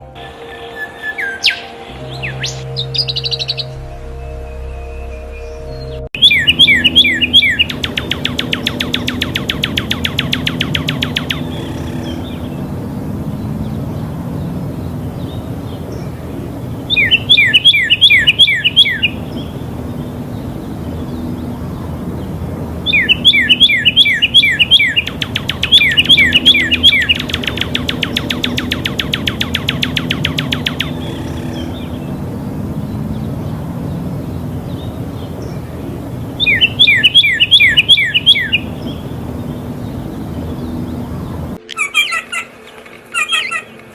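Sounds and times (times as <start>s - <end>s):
songbird whistles and trills: 0.2s - 12.7s, 14.8s - 21.7s, 22.8s - 42.5s.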